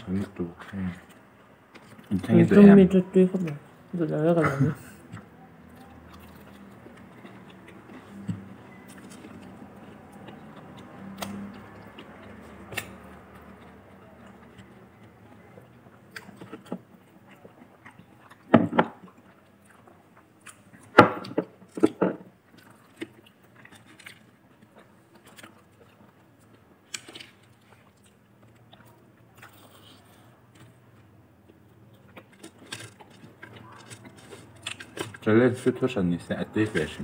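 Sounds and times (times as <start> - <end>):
crunchy chewing of fried chicken: 0.0 - 2.5, 3.2 - 37.0.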